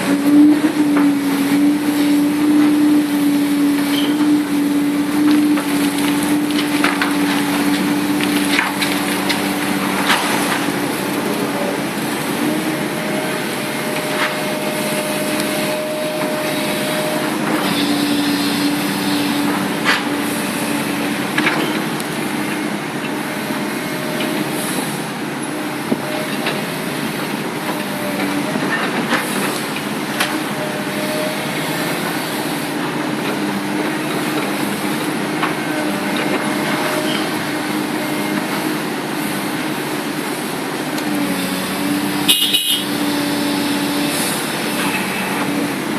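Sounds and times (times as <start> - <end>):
excavator engine and hydraulics: 0.0 - 45.9.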